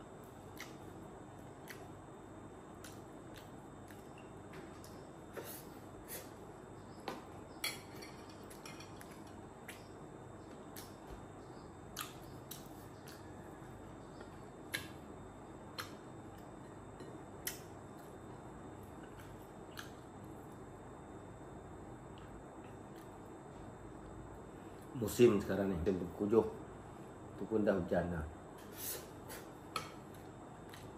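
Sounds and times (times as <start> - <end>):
faint room noise: 0.0 - 30.9.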